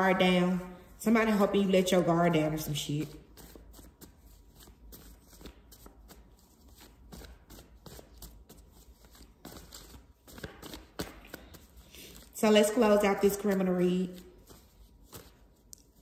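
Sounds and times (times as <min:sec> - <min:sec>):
tarot cards shuffling: 0:03.0 - 0:16.0.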